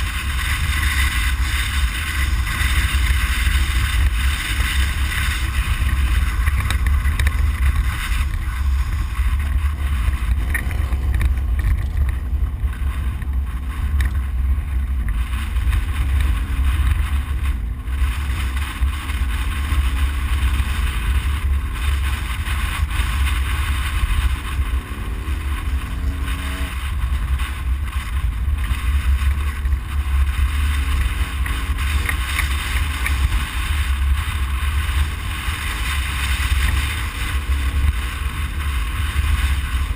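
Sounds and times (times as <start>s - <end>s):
vehicle rumbling off-road: 0.0s - 39.9s.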